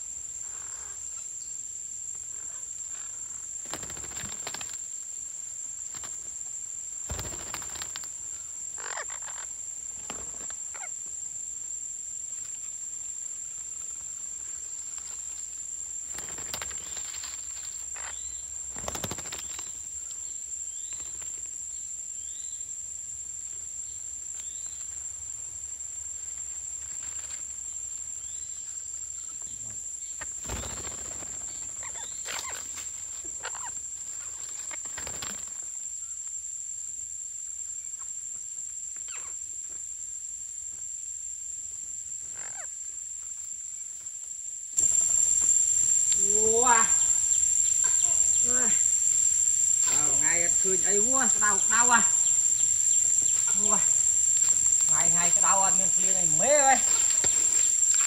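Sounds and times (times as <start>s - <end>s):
high-pitched insect drone: 0.0s - 5.1s, 5.8s - 43.8s, 44.8s - 58.0s.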